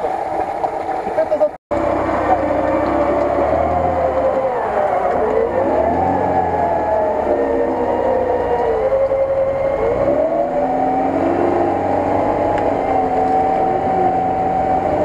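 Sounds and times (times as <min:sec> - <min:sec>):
car engine at high revs: 0:01.7 - 0:15.0.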